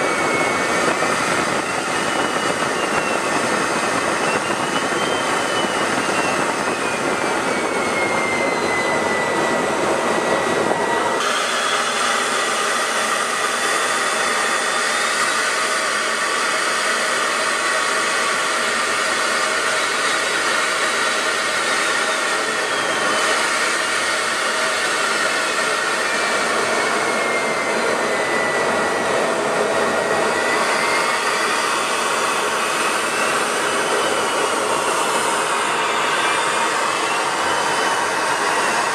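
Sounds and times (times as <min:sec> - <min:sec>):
jet engine whine in flight: 0:00.0 - 0:38.9.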